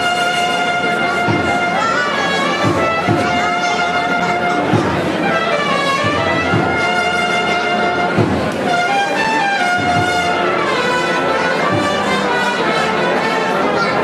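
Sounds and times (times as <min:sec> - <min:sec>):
held brass notes: 0:00.0 - 0:14.0.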